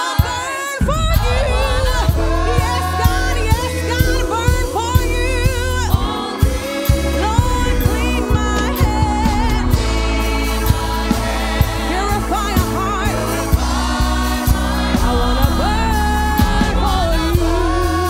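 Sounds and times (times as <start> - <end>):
singers with band: 0.0 - 18.0
steady drum beat: 0.0 - 18.0
bass notes: 0.8 - 18.0.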